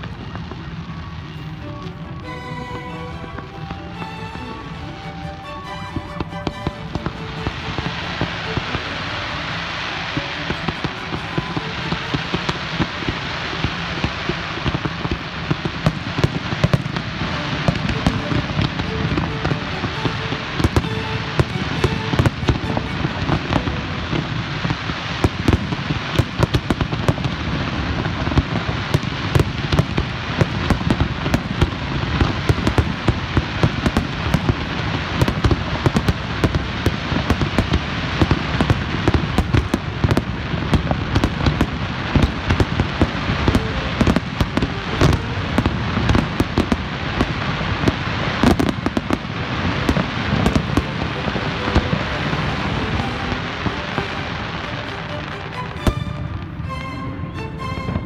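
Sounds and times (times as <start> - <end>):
fireworks bangs: 0.0 - 58.0
fireworks crackle: 0.0 - 58.0.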